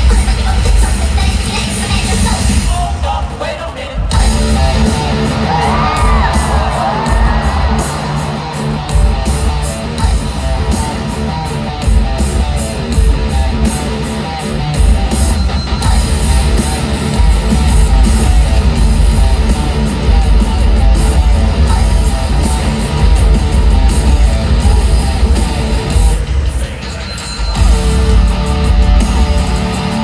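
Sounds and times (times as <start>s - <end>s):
rock band playing: 0.0s - 30.0s
crowd yelling: 1.6s - 30.0s.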